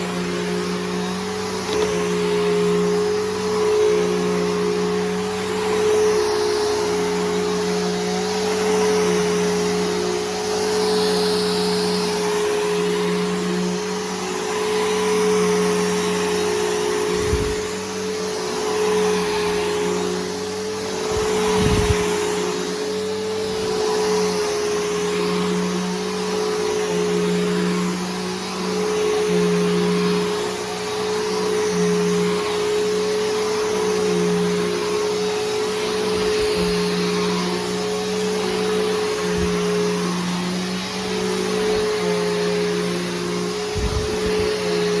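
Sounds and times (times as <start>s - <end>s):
upright vacuum running: 0.0s - 45.0s.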